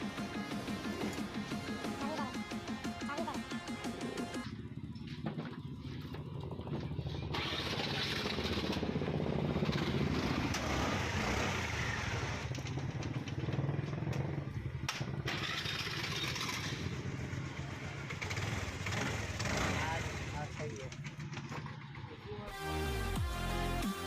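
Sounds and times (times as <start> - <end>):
scooter engine running: 0.0 - 22.5
scooter engine starting: 0.0 - 22.5.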